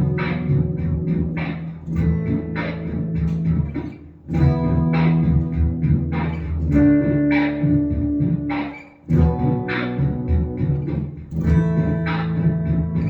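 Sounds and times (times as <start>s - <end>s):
synth electric guitar: 0.0s - 13.0s.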